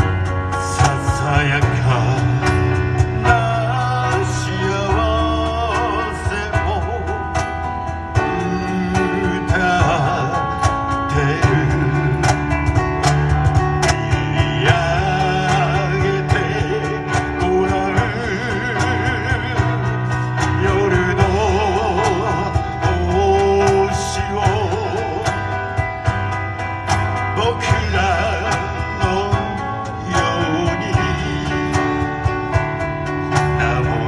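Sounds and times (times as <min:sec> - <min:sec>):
person singing with vibrato: 0:00.0 - 0:26.2, 0:27.2 - 0:34.0
guitar: 0:00.0 - 0:34.0
steady bass line: 0:00.0 - 0:34.0.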